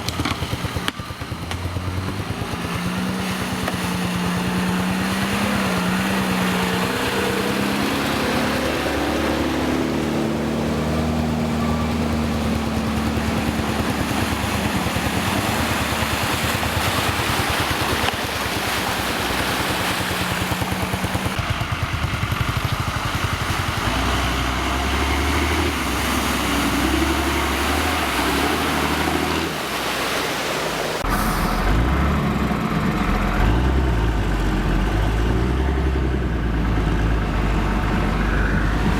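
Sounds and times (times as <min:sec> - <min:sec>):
off-road vehicle engine: 0:00.0 - 0:38.9.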